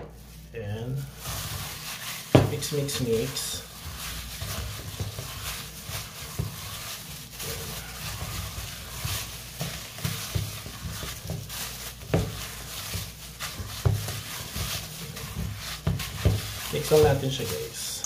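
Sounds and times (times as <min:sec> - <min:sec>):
dough squishing: 0:00.0 - 0:18.0
plastic gloves rustling: 0:00.0 - 0:18.0.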